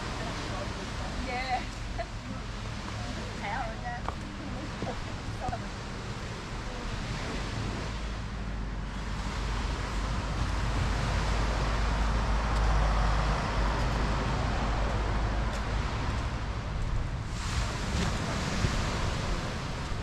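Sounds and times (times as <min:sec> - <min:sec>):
steady rushing noise: 0:00.0 - 0:20.0
wind rumbling on microphone: 0:00.0 - 0:20.0.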